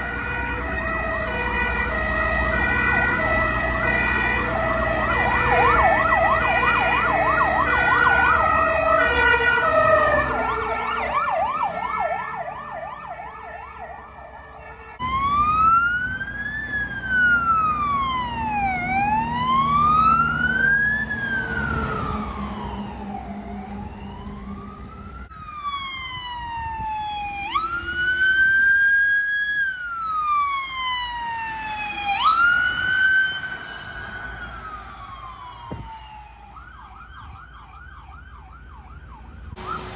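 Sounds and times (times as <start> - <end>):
emergency vehicle sirens: 0.0 - 39.9.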